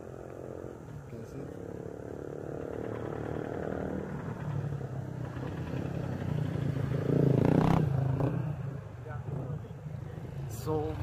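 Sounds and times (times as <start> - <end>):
motorcycle engine passing: 0.0 - 11.0.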